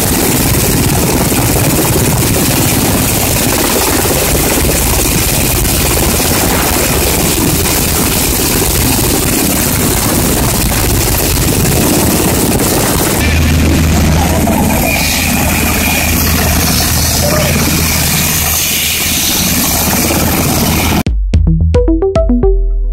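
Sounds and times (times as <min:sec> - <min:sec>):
helicopter running close by: 0:00.0 - 0:21.0.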